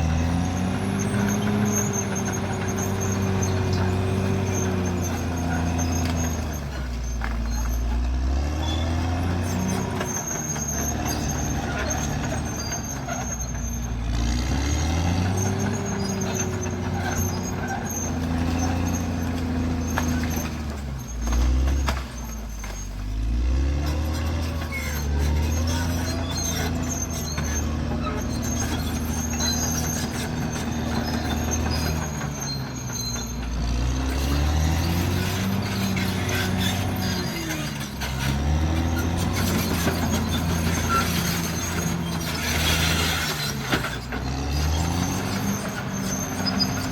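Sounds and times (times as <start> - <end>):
bulldozer diesel engine working hard: 0.0 - 46.9.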